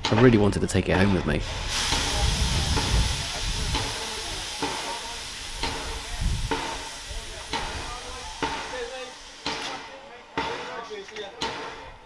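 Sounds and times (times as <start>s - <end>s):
steam locomotive hissing: 1.4s - 12.0s.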